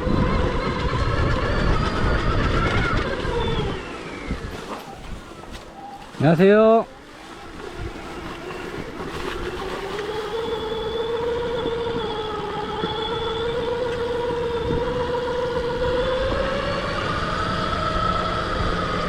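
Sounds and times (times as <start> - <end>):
electric motorbike motor whining: 0.0 - 6.0, 7.3 - 19.0.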